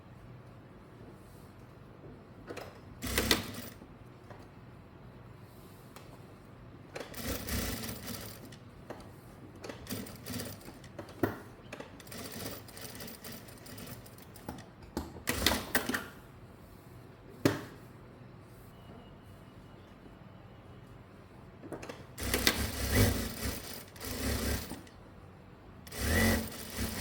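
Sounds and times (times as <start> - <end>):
sewing rustling and machine noise: 0.0 - 27.0.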